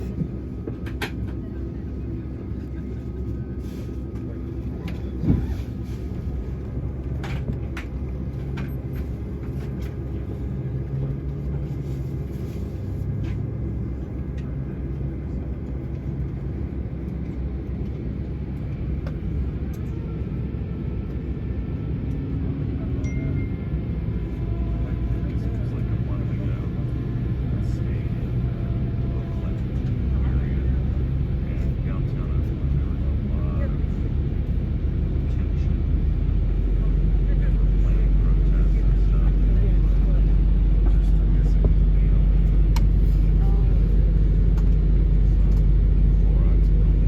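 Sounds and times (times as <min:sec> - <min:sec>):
aircraft cabin engine rumble: 0:00.0 - 0:47.0.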